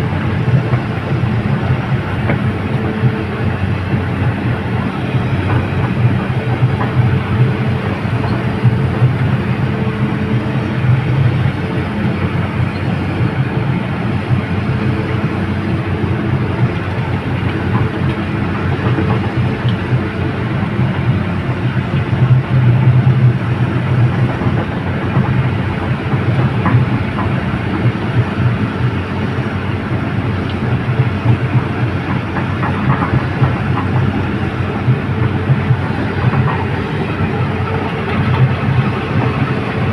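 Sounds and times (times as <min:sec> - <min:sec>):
continuous mechanical rattle: 0:00.0 - 0:39.9
diesel engine drone: 0:00.0 - 0:39.9.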